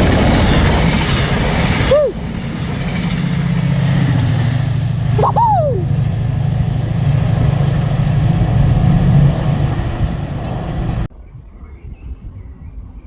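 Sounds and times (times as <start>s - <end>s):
train rumbling: 0.0s - 11.1s.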